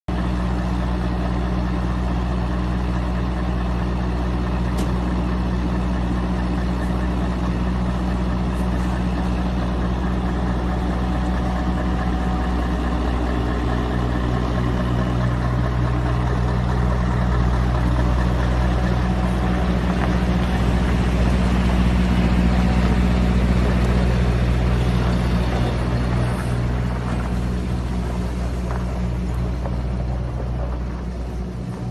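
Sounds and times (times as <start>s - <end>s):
diesel truck engine running: 0.1s - 31.9s.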